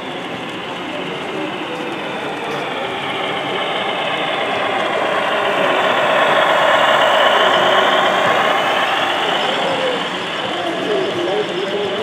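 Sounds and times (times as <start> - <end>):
model locomotive diesel rumble: 0.0 - 12.0.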